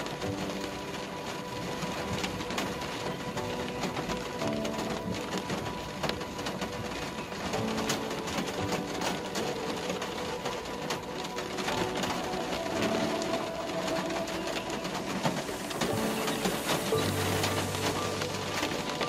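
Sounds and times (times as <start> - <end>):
faint music with held notes: 0.0 - 19.0
rain on car roof: 0.0 - 19.0.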